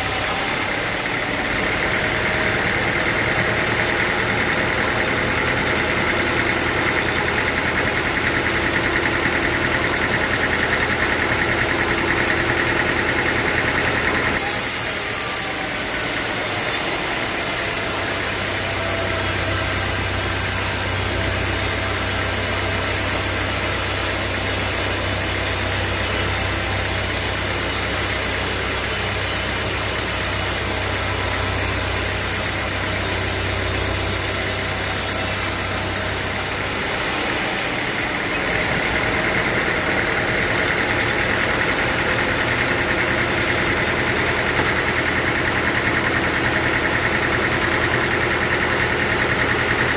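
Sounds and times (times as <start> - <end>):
sawmill machinery noise: 0.0 - 49.9.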